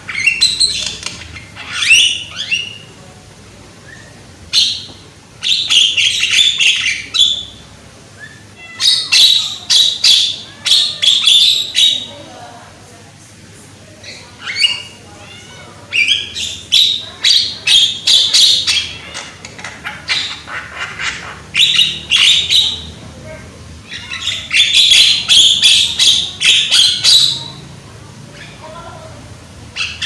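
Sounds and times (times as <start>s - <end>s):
myna squawking and chattering: 0.0s - 3.0s, 3.8s - 12.3s, 14.0s - 29.0s, 29.6s - 30.0s.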